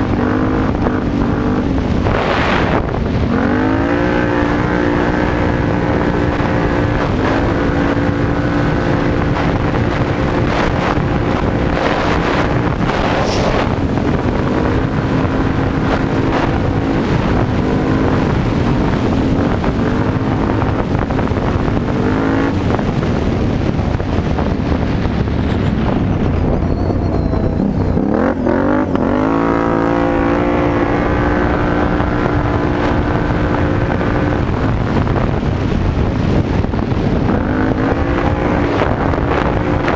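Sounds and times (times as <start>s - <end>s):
quad bike engine revving: 0.0s - 39.9s
wind buffeting microphone: 0.0s - 39.9s.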